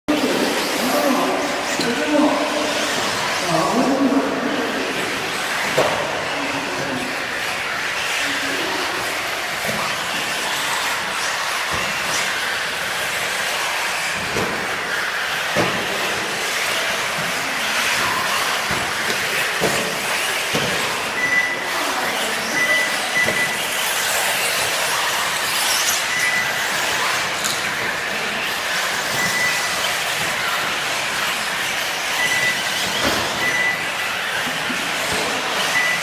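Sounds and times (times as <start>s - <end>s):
rc car motors hissing: 6.6s - 35.8s.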